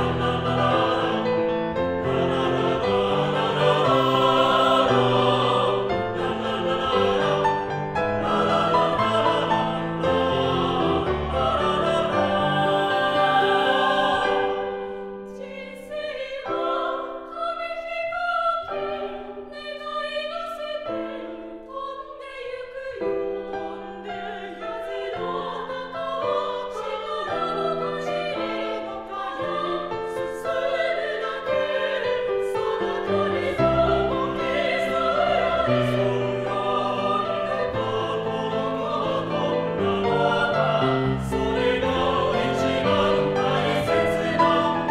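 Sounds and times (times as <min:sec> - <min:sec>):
choir singing in harmony: 0:00.0 - 0:44.9.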